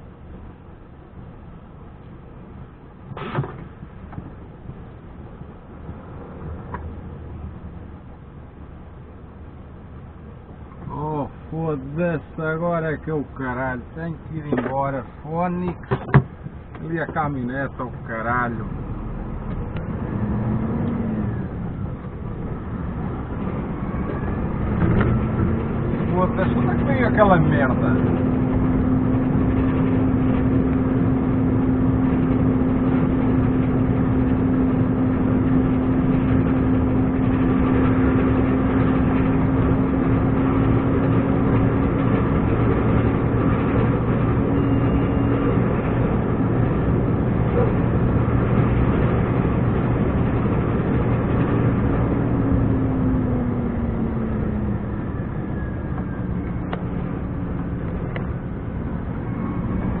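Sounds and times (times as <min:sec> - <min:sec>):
truck diesel engine drone: 0:00.0 - 1:00.0.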